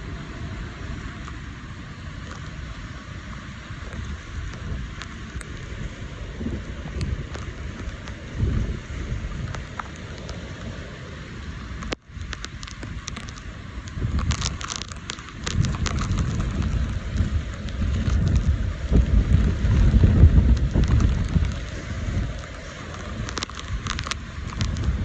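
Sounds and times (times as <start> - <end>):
heavy rain patter: 0.0 - 25.0
wind buffeting microphone: 1.9 - 25.0.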